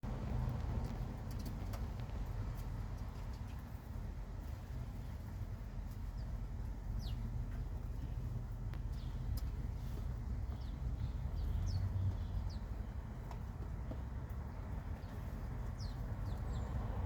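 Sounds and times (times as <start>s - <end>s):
low city rumble: 0.0s - 17.0s
sparrows chirping: 1.3s - 17.0s.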